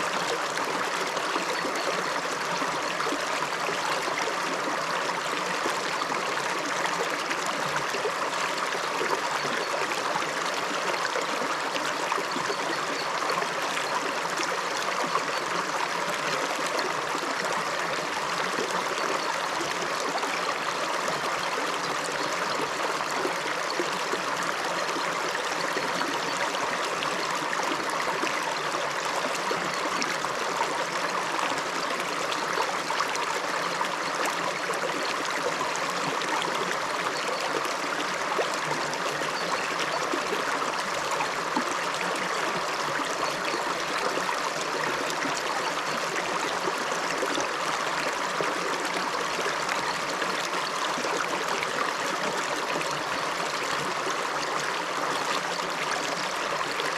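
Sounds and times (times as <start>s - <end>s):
river flowing over stones: 0.0s - 56.9s.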